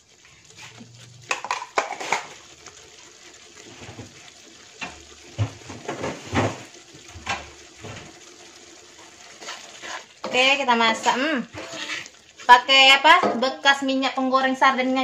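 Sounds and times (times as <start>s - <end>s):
chili paste simmering in oil: 0.0s - 15.0s
bubbles popping: 0.1s - 14.0s.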